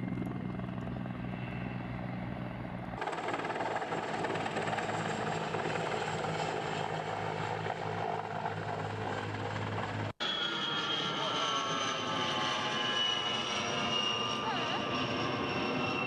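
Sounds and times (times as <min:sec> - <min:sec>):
aircraft engine whine: 0:00.0 - 0:16.0.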